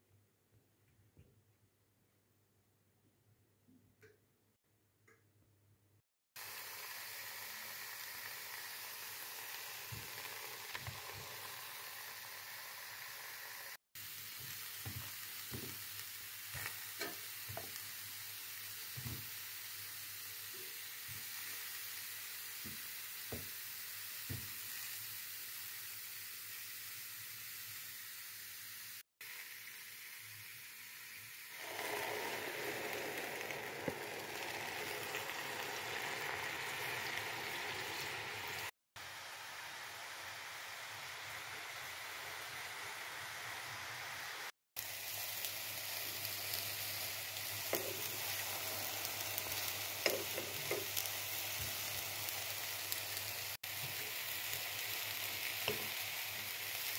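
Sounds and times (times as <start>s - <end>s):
mushrooms sizzling in frying pan: 6.4s - 56.9s.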